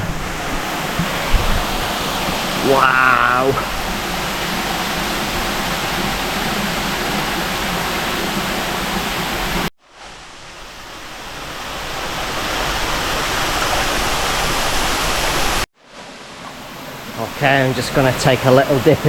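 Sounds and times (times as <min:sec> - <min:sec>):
waterfall pouring into pool: 0:00.2 - 0:15.6.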